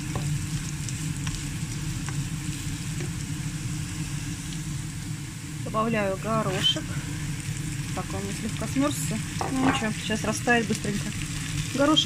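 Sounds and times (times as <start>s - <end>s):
steady low hum: 0.0s - 12.0s
vegetables sizzling in hot oil: 0.0s - 12.0s.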